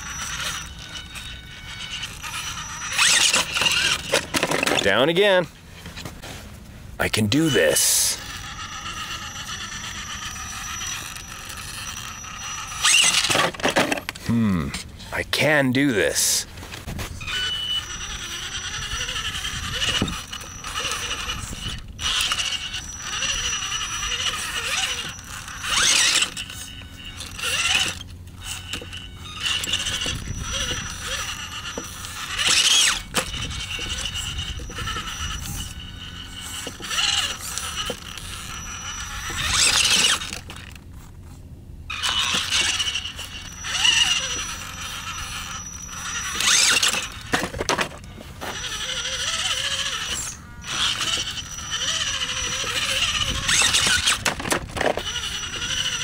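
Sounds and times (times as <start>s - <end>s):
motor throttle bursts: 0.0s - 16.4s, 17.1s - 56.0s
electric motor whining: 0.0s - 56.0s.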